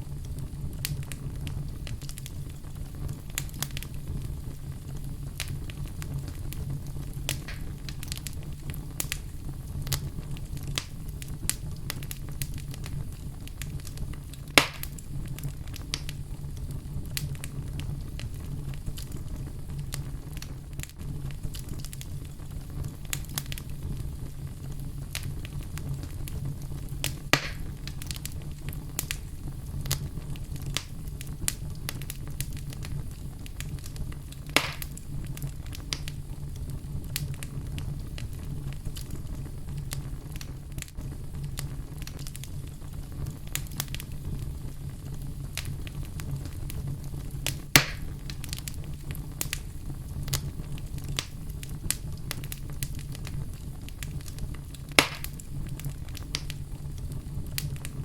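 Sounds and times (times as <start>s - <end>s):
fire crackling in fireplace: 0.0s - 58.0s
loud fire pops: 0.0s - 58.0s.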